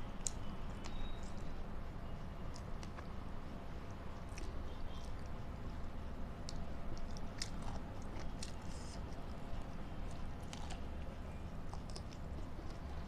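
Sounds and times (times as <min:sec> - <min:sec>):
person chewing food: 0:02.4 - 0:13.0.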